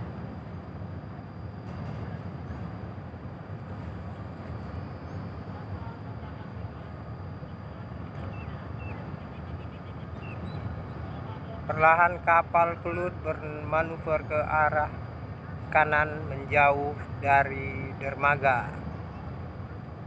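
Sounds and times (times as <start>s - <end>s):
faint high whine: 0.0s - 20.0s
ship engines low rumble: 0.0s - 20.0s.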